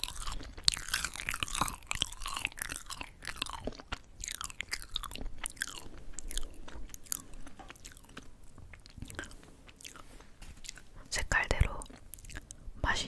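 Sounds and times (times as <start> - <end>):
chewing crisp rice crackers: 0.0 - 12.6.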